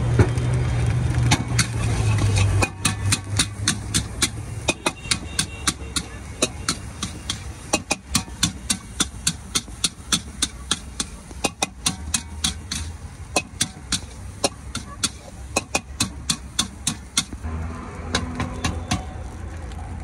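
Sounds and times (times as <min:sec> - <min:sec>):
spatula scraping metal wok: 0:01.4 - 0:17.4.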